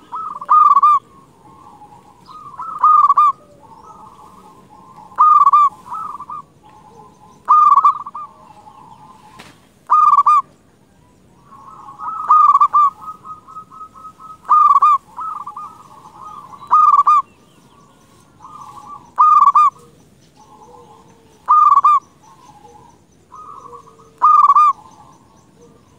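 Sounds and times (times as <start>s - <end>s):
dove cooing: 0.0s - 25.9s.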